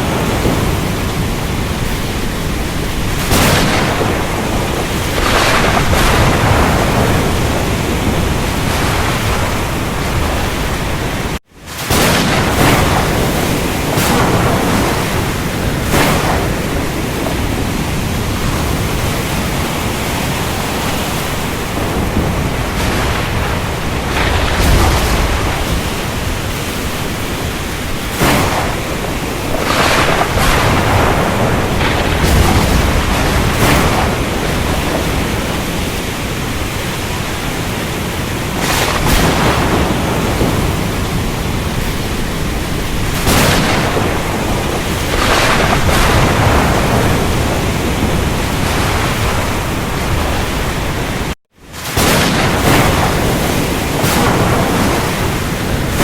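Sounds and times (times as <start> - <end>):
rain: 0.0 - 56.0
surf: 0.0 - 56.0
thunder rumbling: 0.0 - 56.0.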